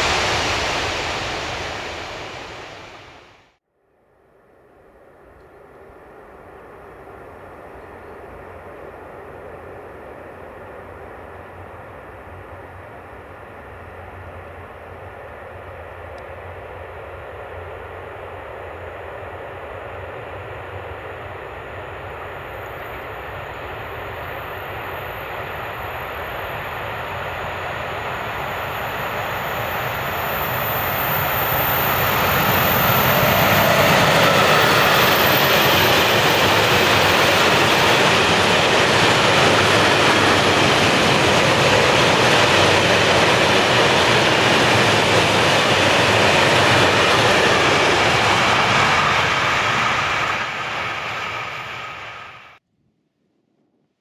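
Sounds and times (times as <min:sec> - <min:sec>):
freight train passing: 0:00.0 - 0:03.6, 0:04.2 - 0:52.6.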